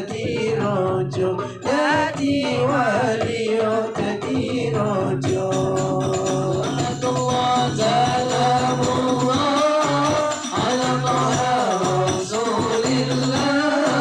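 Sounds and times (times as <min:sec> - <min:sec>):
frame drums beating: 0:00.0 - 0:14.0
men singing devotional songs: 0:00.0 - 0:14.0.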